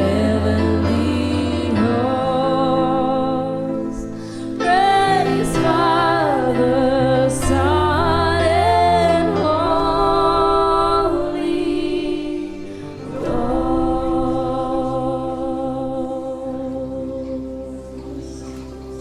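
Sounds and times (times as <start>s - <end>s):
keyboard chords: 0.0s - 19.0s
person singing gospel: 0.0s - 19.0s.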